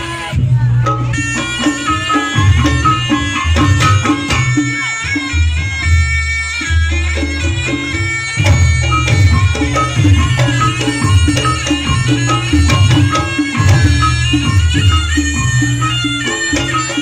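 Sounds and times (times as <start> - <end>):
drumming: 0.0 - 17.0
shawm playing nasal melody: 0.0 - 17.0.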